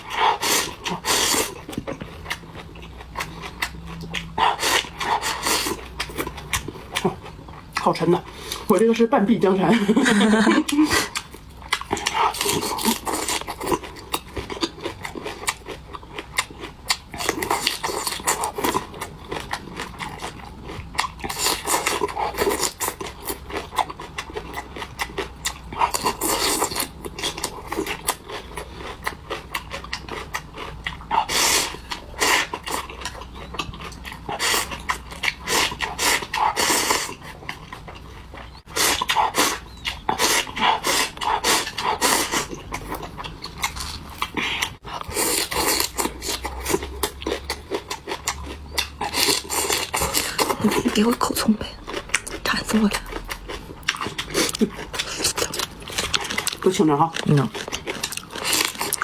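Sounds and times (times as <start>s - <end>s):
people chewing and slurping: 0.0s - 8.8s, 9.8s - 59.0s.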